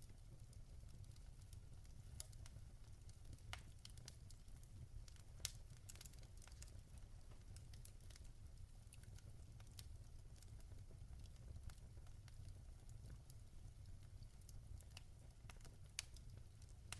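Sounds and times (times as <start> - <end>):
logs crackling in fireplace: 0.0 - 16.9.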